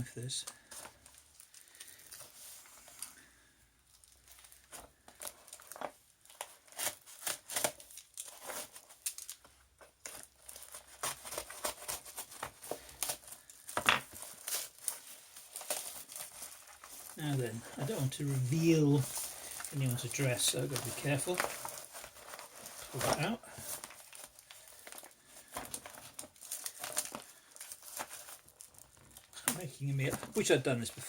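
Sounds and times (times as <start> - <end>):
packaging rustling and crinkling: 0.0 - 31.0.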